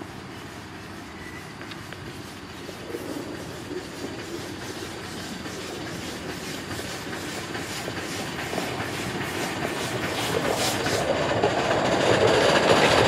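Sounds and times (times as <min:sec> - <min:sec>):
steam locomotive exhaust chuffs: 0:00.0 - 0:13.0
wheels clattering on rail: 0:00.0 - 0:13.0.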